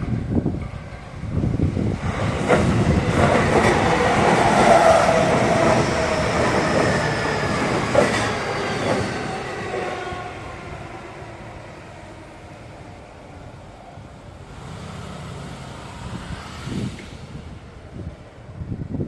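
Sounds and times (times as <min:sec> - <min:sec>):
train passing on rails: 0:00.0 - 0:19.0.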